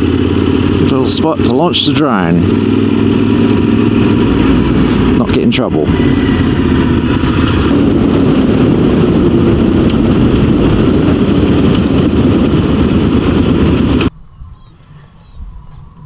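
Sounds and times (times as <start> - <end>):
motorcycle engine: 0.0 - 14.1
wind rush: 0.0 - 14.6.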